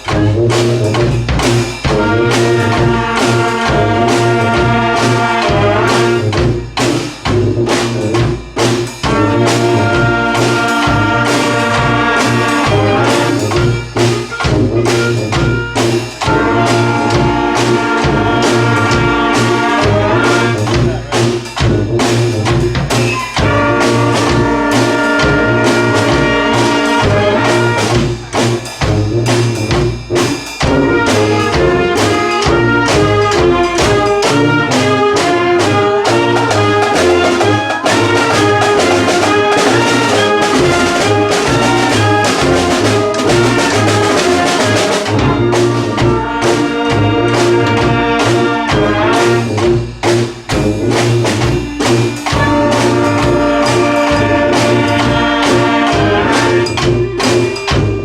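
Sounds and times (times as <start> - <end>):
brass band playing rock tune: 0.0 - 58.0.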